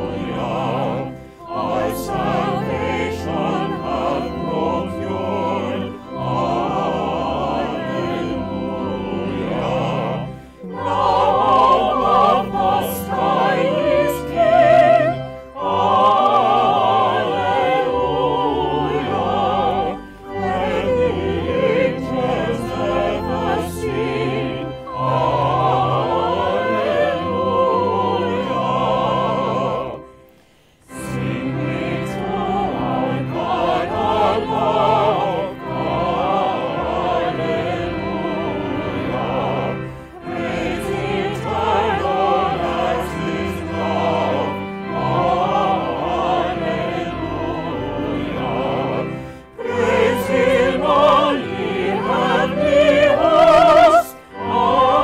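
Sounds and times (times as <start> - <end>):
classical singing with orchestra: 0.0 - 55.0.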